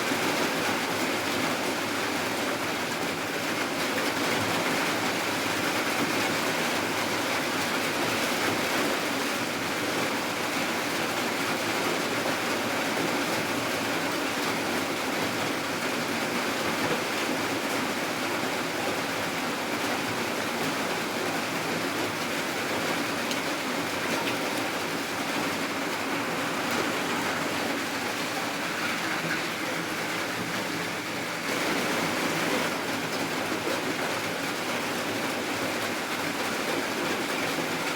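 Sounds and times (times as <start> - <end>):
rain falling steadily: 0.0 - 37.9.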